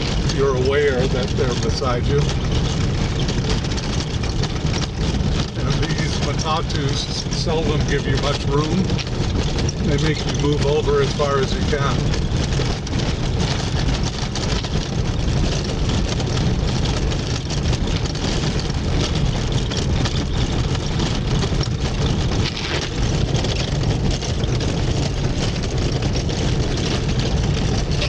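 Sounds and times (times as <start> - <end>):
car engine and tyre noise: 0.0 - 28.0
knocks and rattles in car cabin: 0.0 - 28.0.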